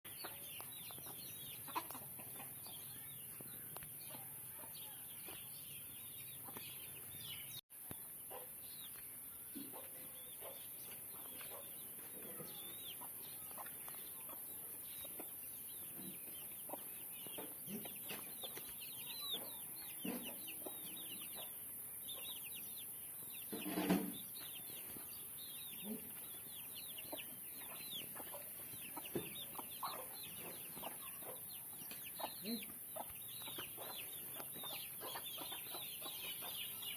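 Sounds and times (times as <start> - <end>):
chickens clucking: 0.1 - 36.9.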